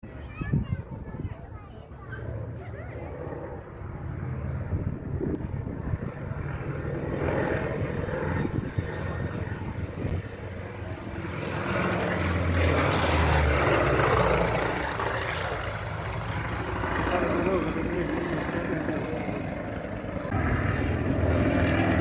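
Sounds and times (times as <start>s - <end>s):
propeller plane engine running: 0.0s - 22.0s.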